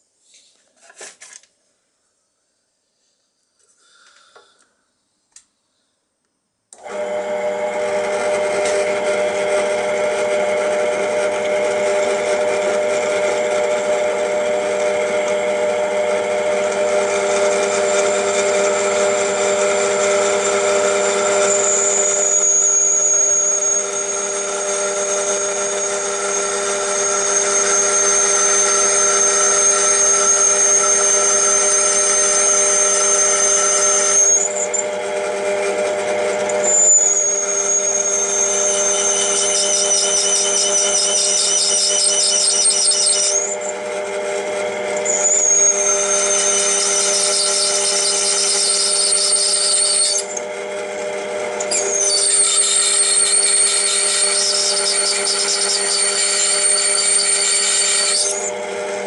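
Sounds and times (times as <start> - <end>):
drill press motor humming: 6.7 - 59.0
thin high whine: 8.6 - 59.0.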